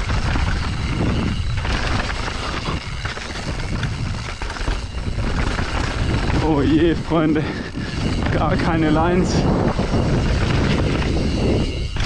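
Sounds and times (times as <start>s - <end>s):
bike rattling: 0.0s - 12.0s
bike tyres rolling over stones: 0.0s - 12.0s
wind rumble on microphone: 0.0s - 12.0s.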